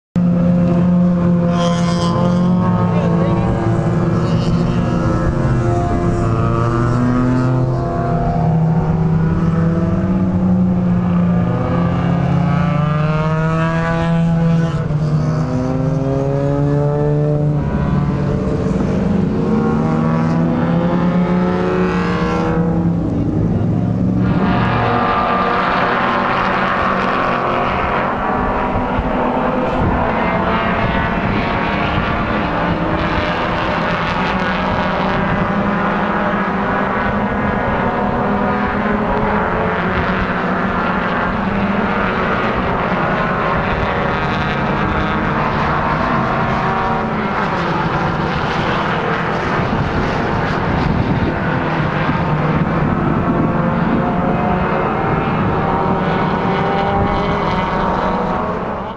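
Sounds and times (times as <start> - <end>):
distant race car engines: 0.2 - 58.9.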